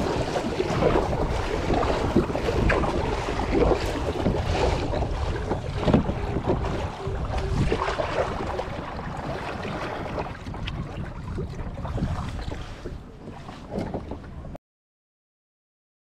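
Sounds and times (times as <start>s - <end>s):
water splashing and lapping: 0.0s - 14.6s
wind buffeting microphone: 0.0s - 14.6s.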